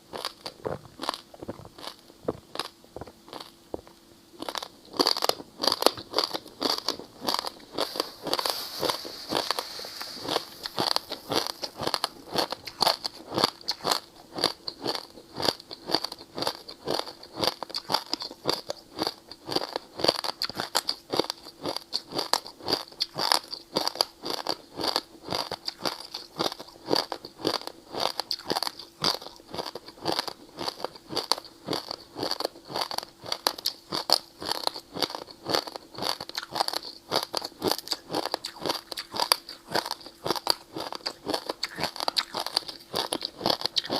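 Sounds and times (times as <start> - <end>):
ice being chewed: 0.1 - 43.9.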